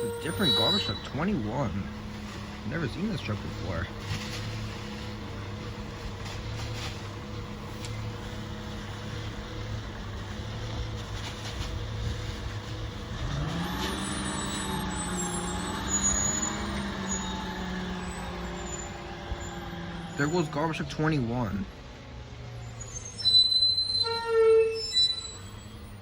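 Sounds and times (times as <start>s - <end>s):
garbage truck engine: 0.0s - 26.0s.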